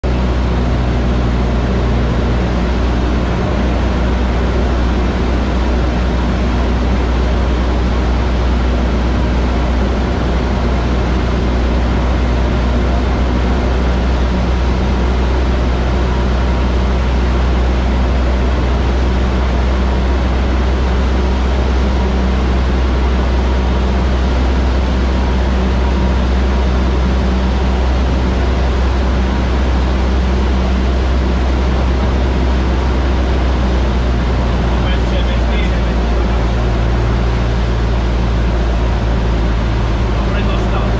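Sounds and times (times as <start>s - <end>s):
light aircraft engine and propeller drone: 0.0s - 40.9s.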